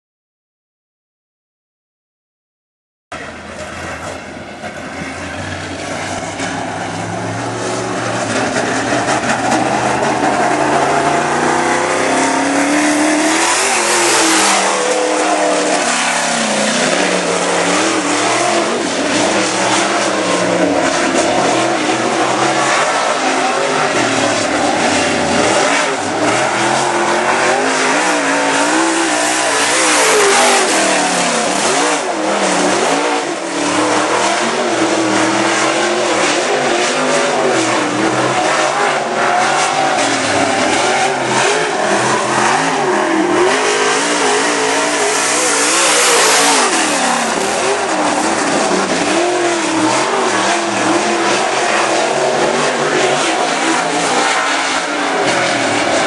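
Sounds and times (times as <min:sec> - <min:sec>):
race car engine at speed: 0:03.1 - 0:56.0.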